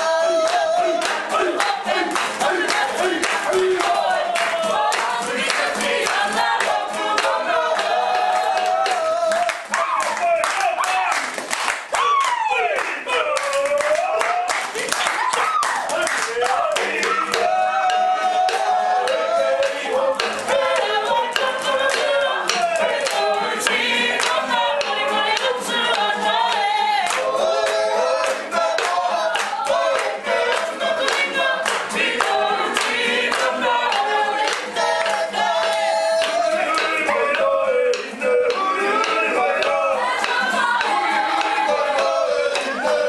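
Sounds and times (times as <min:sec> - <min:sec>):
group singing in unison: 0:00.0 - 0:10.4, 0:12.6 - 0:43.0
sharp taps keeping beat: 0:00.0 - 0:11.9, 0:12.8 - 0:43.0.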